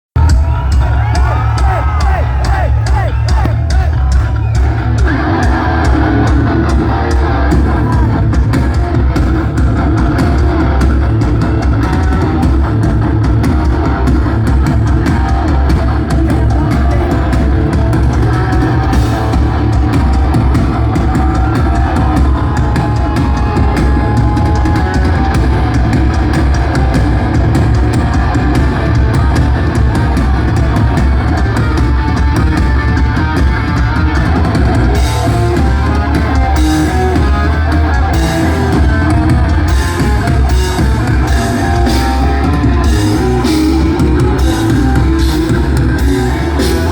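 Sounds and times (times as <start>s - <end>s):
drum kit: 0.2s - 46.9s
electric guitars: 0.2s - 46.9s
heavy metal band playing: 0.2s - 46.9s.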